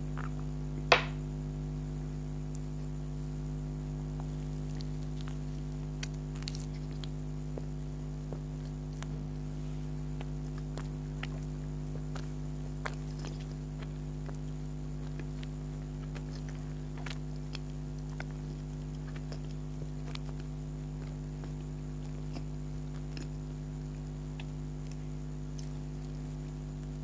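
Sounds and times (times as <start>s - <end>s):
electrical hum: 0.0s - 27.0s
chewing with mouth clicks: 0.1s - 0.5s, 4.1s - 27.0s.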